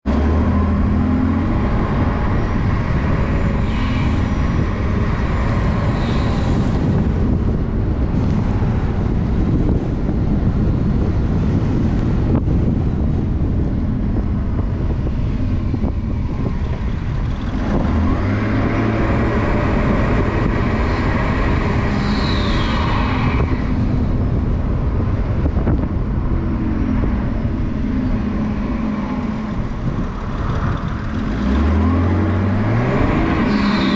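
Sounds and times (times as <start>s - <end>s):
diesel engine under load: 0.0s - 33.9s
road noise: 0.0s - 33.9s.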